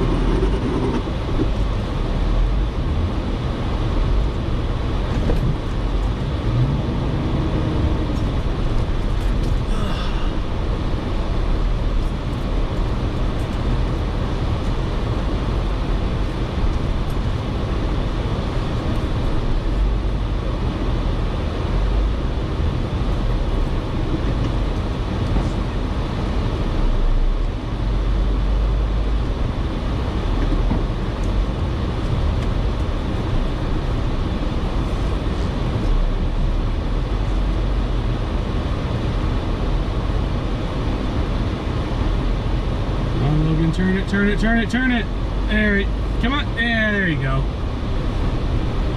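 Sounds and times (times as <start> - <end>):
engine and drivetrain rumble: 0.0 - 48.9.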